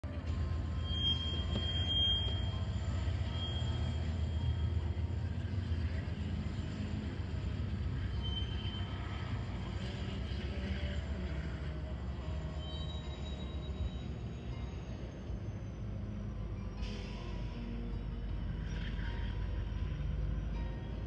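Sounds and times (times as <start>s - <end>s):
distant freight train rumbling: 0.0s - 21.0s.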